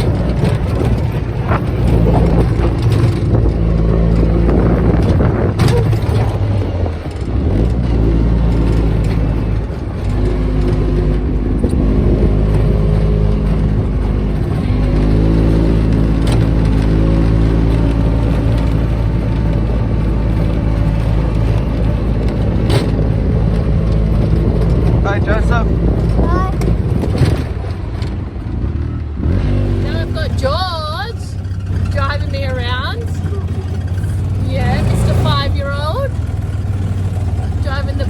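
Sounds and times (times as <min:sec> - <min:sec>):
knocks and rattles: 0:00.0 - 0:28.7, 0:29.5 - 0:38.0
small buggy engine revving: 0:00.0 - 0:38.0.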